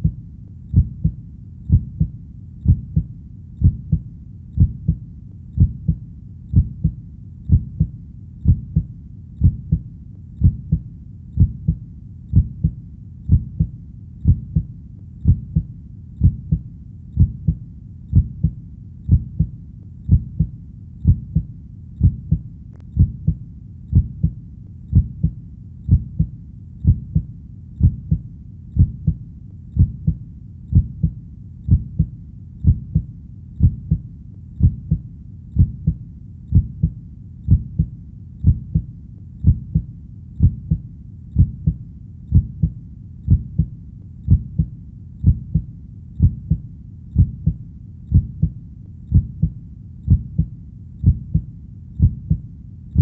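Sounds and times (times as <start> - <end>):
faint low rumble: 0.0 - 53.0
heartbeat: 0.0 - 53.0.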